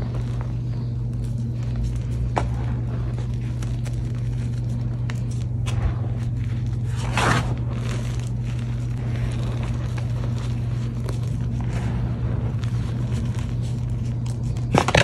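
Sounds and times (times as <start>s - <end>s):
hands crushing chalk powder: 0.0s - 15.0s
steady low hum: 0.0s - 15.0s.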